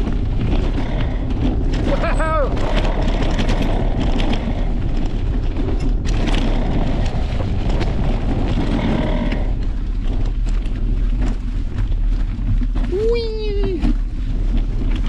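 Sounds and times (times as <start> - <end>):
bike knocking and rattling: 0.0 - 15.0
tyres rolling over dirt: 0.0 - 15.0
wind buffeting microphone: 0.0 - 15.0.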